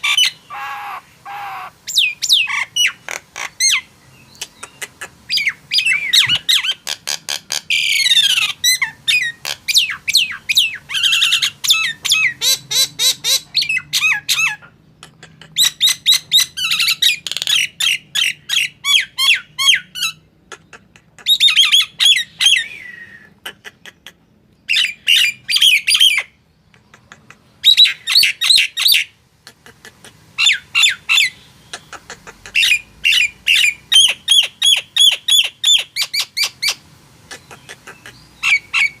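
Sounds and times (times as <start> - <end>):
starling squawking and whistling: 0.0 - 24.0, 24.7 - 26.4, 27.6 - 29.1, 30.4 - 39.0.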